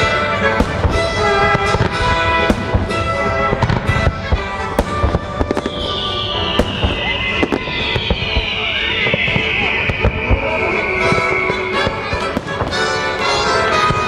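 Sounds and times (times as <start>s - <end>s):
fireworks booming and popping: 0.0s - 14.0s
patriotic music: 0.0s - 14.0s.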